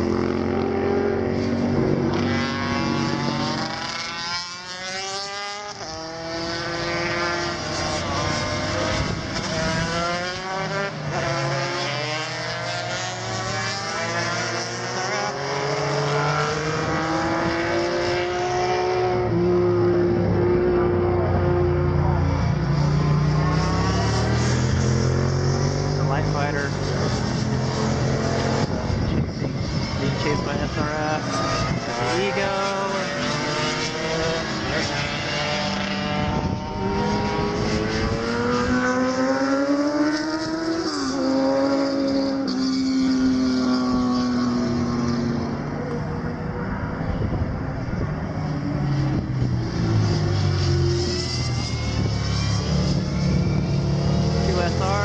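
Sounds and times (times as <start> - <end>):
racing motorcycles passing: 0.0 - 55.0.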